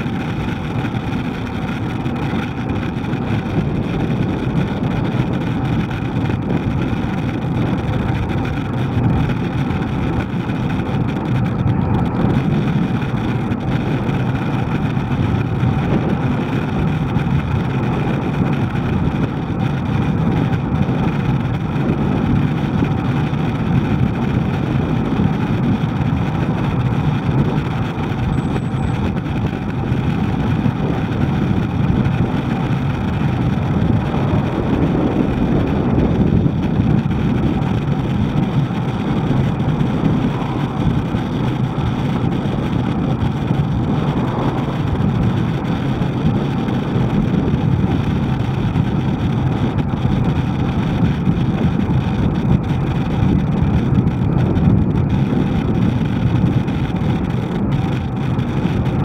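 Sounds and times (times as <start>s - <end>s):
rushing road traffic noise: 0.0s - 59.0s.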